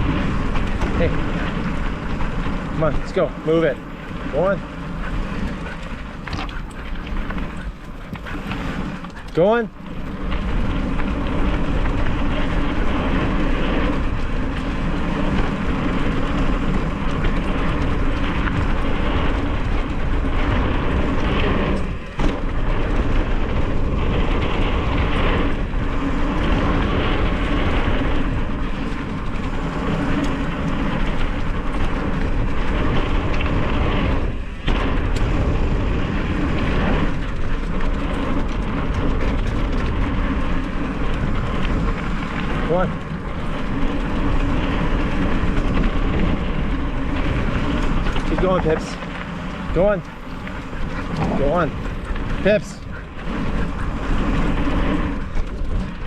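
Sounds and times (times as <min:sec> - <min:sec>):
bike rolling over dirt trail: 0:00.0 - 0:56.0
wind on microphone: 0:00.0 - 0:56.0.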